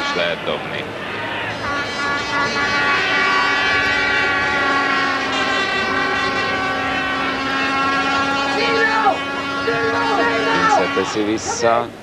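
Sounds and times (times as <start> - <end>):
loud sustained horn tone: 0.0 - 11.8
stadium crowd noise: 0.0 - 12.0.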